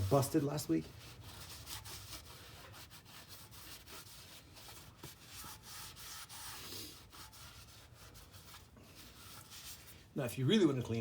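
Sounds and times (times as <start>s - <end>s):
faint rubbing and wiping: 0.0s - 10.3s.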